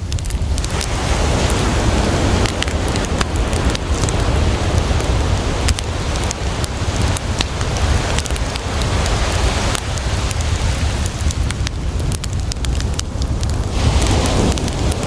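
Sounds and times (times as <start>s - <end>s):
campfire crackling and popping: 0.0s - 15.0s
sea waves: 0.0s - 15.0s.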